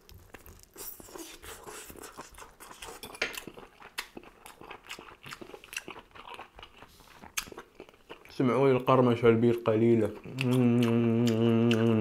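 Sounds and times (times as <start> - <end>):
chewing with wet mouth clicks: 0.0 - 8.9, 10.1 - 12.0.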